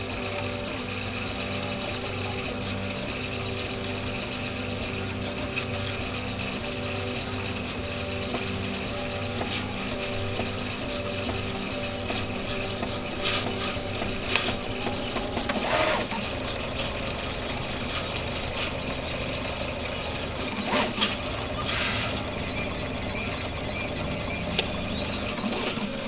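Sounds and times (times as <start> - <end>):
motor pitch sweeps: 0.0 - 26.0
stepper motors humming: 0.0 - 26.0
printer clicks: 0.1 - 26.0.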